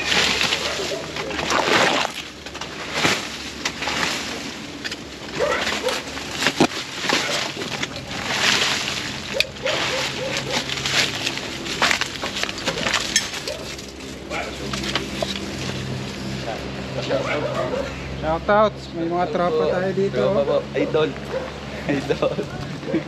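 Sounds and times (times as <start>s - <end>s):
dry vines and leaves rustling: 0.0s - 23.0s.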